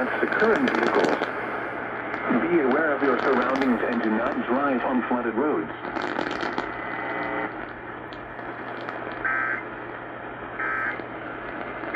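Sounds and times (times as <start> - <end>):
radio hiss and hum: 0.0 - 11.9.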